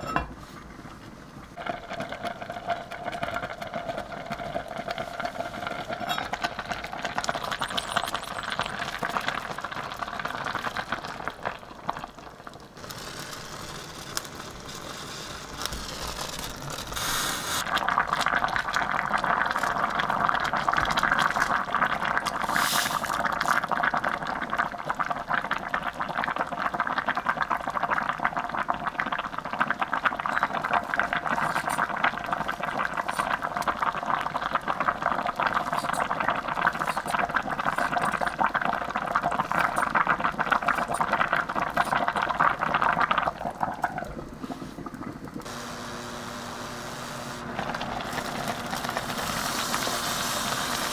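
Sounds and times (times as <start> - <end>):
stew bubbling in pot: 0.0 - 50.9.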